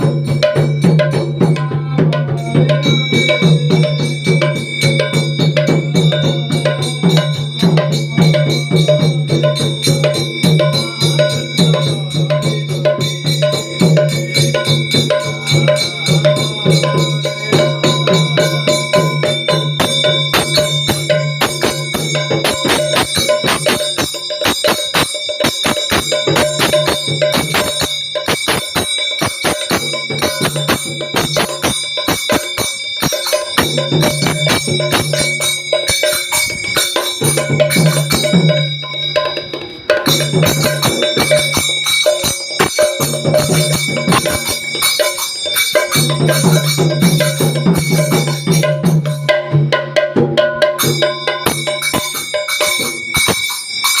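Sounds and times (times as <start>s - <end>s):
hand drum fast strokes: 0.0s - 54.0s.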